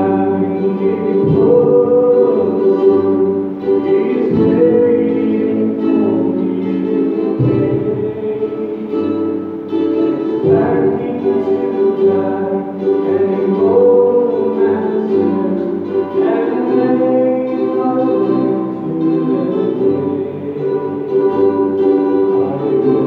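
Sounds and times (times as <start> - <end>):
man singing a ballad: 0.0 - 23.0
ukulele: 0.0 - 23.0.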